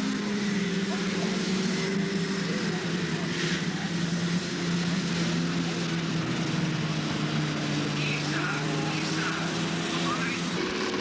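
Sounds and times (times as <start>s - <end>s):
snowmobile engines running: 0.0s - 11.0s.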